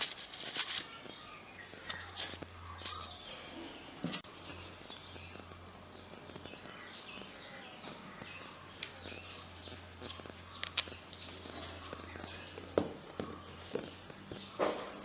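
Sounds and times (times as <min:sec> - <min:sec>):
small birds chirping: 0:00.0 - 0:15.0
steady low hum: 0:00.9 - 0:15.0.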